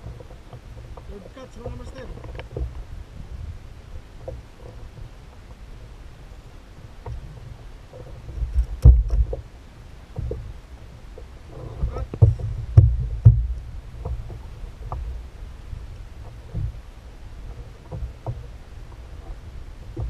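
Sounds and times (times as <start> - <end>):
knocks and thumps on kayak hull: 0.0 - 5.6, 6.9 - 20.0
low steady rumble: 0.0 - 20.0.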